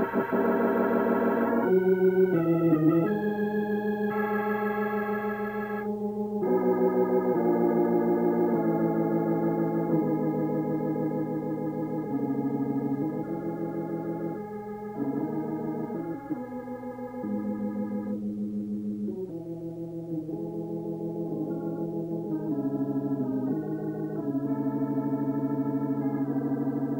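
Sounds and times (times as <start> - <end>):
organ chords with tremolo: 0.0 - 26.9.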